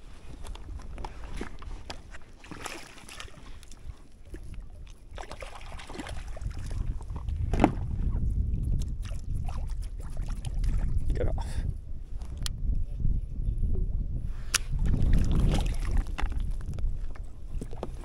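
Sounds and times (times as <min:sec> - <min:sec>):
water splashing around boat: 0:00.0 - 0:11.2, 0:14.7 - 0:18.0.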